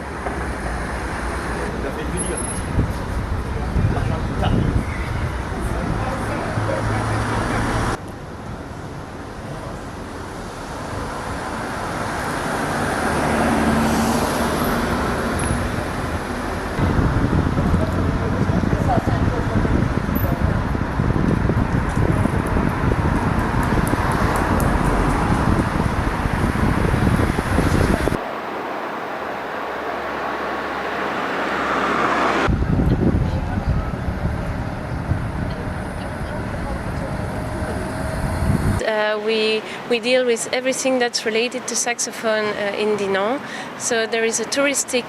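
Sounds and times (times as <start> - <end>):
vehicle passing: 0.5 - 8.0, 10.4 - 39.9
wind rumbling on microphone: 2.4 - 38.8.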